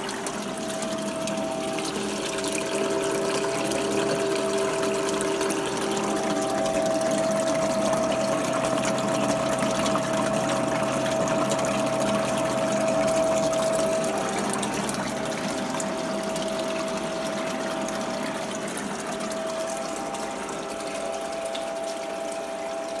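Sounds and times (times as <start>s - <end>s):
pump humming: 0.0s - 23.0s
water rushing down a sluice: 0.0s - 23.0s.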